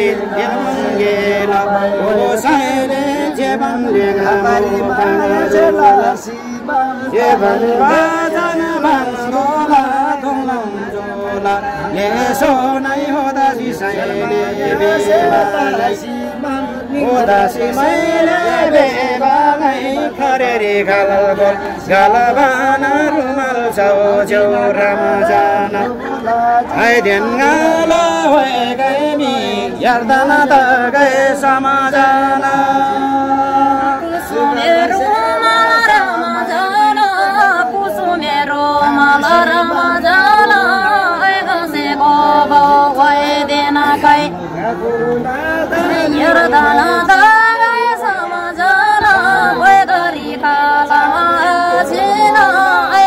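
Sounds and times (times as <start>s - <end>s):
person singing long held notes: 0.0s - 53.0s.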